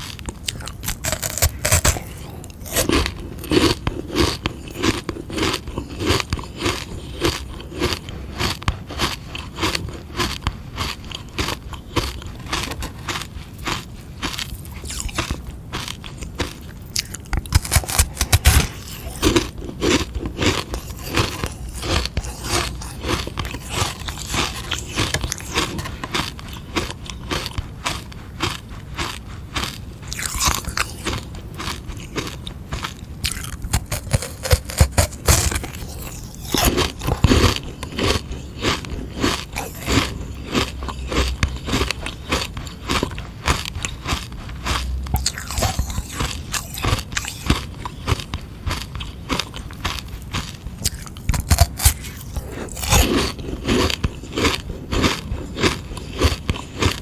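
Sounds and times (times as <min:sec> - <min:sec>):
ice lolly crunching: 0:00.0 - 0:57.0.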